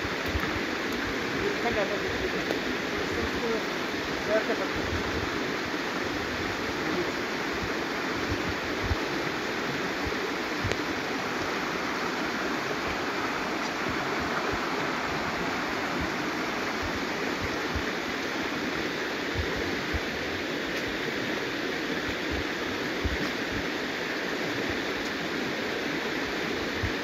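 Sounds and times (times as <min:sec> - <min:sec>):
water rushing over stones: 0:00.0 - 0:27.0.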